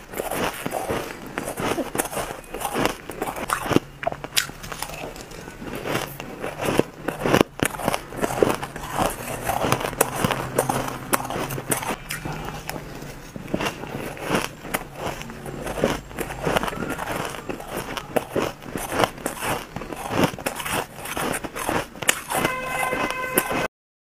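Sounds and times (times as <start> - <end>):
person chewing ice: 0.0 - 23.7.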